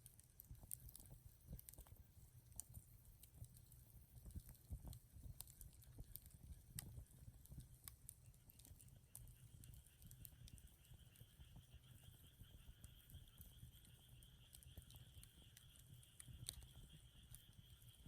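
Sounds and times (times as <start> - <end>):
wood fire crackling and popping: 0.0 - 11.0, 12.2 - 18.0.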